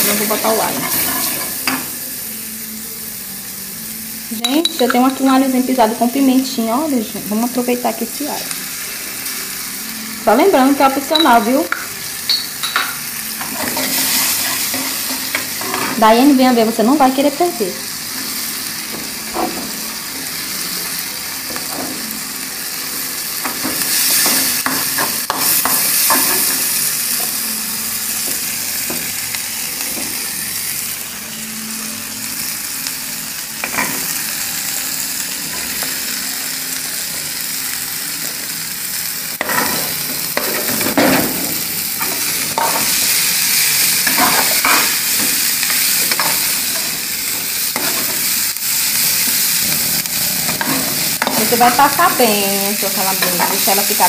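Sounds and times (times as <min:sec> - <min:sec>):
vegetables sizzling in frying pan: 0:00.0 - 0:54.0.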